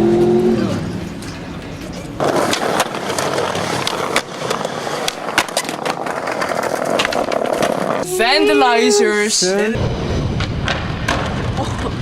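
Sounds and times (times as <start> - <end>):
skateboard wheels rolling on pavement: 0.0 - 12.0.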